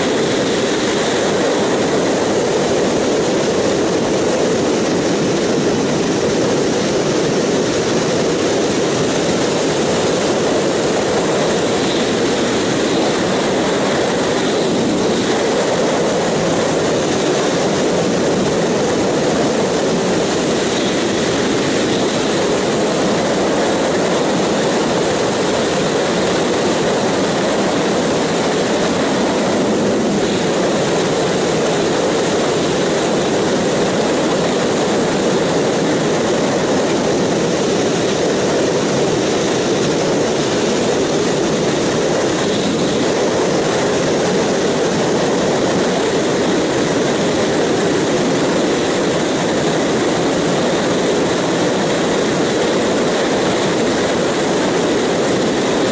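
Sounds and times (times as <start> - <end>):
wind and motorcycle engine roar: 0.0 - 55.9.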